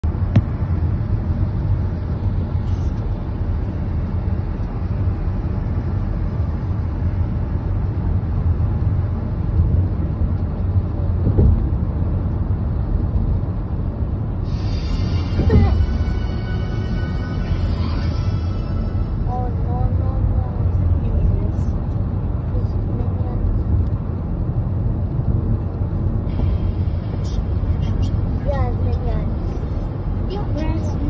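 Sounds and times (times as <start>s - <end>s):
road and engine rumble: 0.0s - 31.0s.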